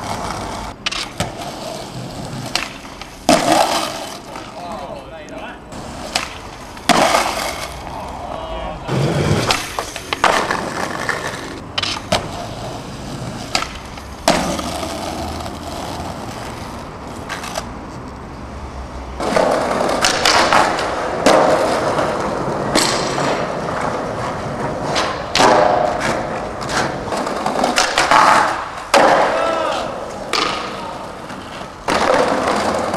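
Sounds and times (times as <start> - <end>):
skateboard clacking on ground: 0.0 - 18.2, 19.2 - 32.9
skateboard wheels rolling: 0.0 - 32.9.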